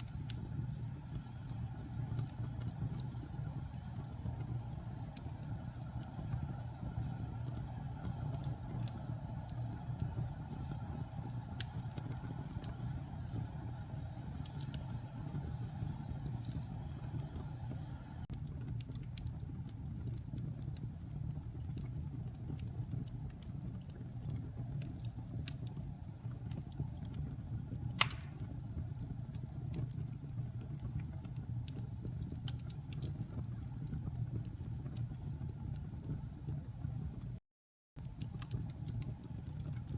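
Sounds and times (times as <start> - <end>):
wood fire popping and cracking: 0.0 - 37.1, 38.0 - 39.9
fireplace flames rumbling: 0.0 - 37.4, 38.0 - 39.9.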